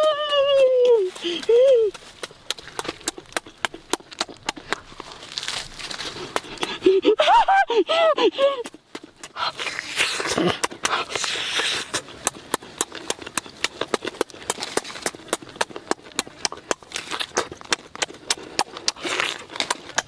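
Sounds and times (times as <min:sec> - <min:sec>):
wet chewing and lip-smacking: 0:00.0 - 0:07.3, 0:08.0 - 0:20.0.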